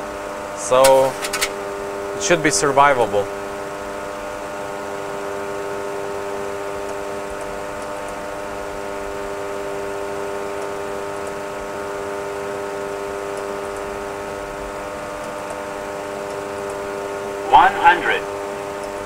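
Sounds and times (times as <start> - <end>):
cockpit engine hum: 0.1 - 19.0.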